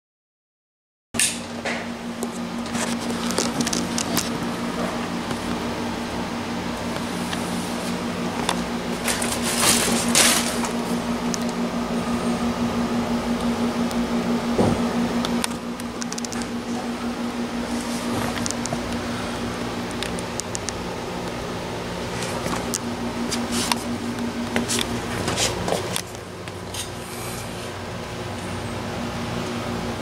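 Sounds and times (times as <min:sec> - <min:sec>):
low hum: 0:01.2 - 0:30.0.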